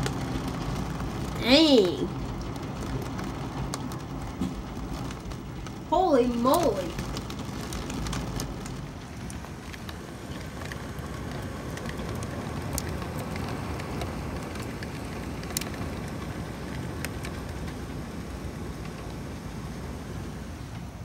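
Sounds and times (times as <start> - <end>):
sharp taps of raindrops: 0.0 - 19.3
heavy rain pouring: 0.0 - 21.0.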